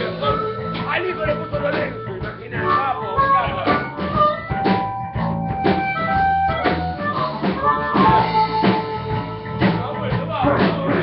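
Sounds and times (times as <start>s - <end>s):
harmonica wailing: 0.0s - 9.6s
bass guitar: 0.0s - 11.0s
drum kit beat: 0.0s - 11.0s
electric guitar: 0.0s - 11.0s.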